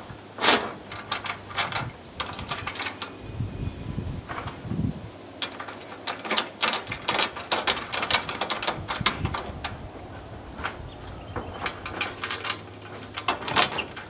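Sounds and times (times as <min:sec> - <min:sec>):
small hard parts clicking: 0:00.4 - 0:03.2, 0:05.4 - 0:14.0.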